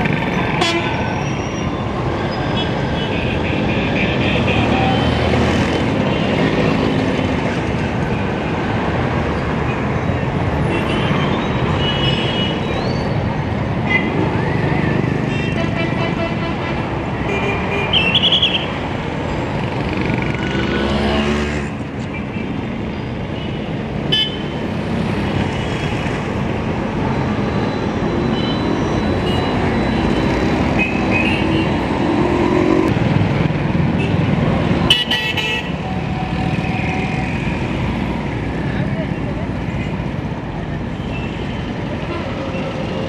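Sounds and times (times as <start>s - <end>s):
traffic engines rumbling: 0.0s - 43.0s.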